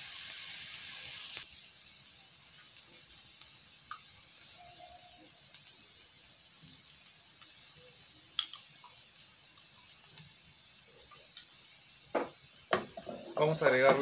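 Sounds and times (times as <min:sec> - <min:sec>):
onion sizzling in oil: 0:00.0 - 0:14.0.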